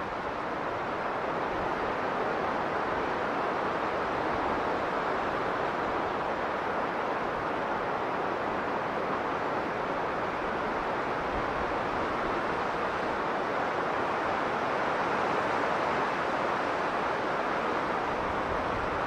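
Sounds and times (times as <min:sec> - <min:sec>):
strong blizzard wind: 0:00.0 - 0:19.0.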